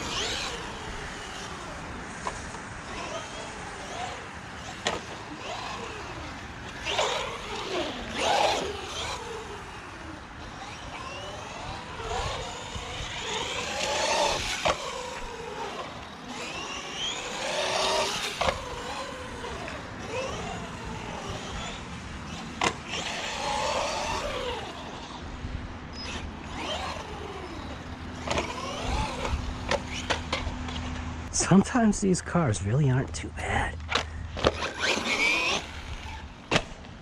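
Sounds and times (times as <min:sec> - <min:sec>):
toy car motor whining: 0:00.0 - 0:31.0, 0:33.9 - 0:36.8
tire noise: 0:00.0 - 0:37.0.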